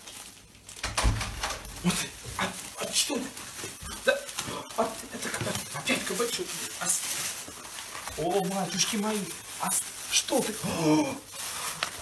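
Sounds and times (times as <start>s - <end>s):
pet scrabbling in bag: 0.0s - 12.0s
plastic bag rustling: 0.0s - 12.0s.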